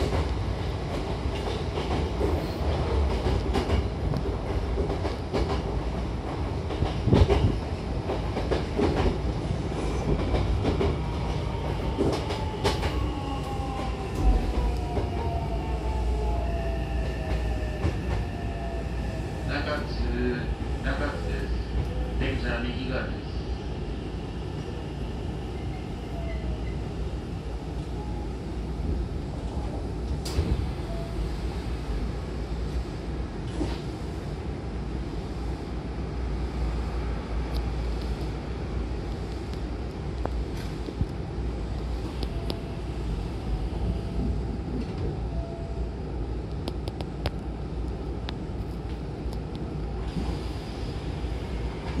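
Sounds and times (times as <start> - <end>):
train car interior rumble: 0.0 - 52.0.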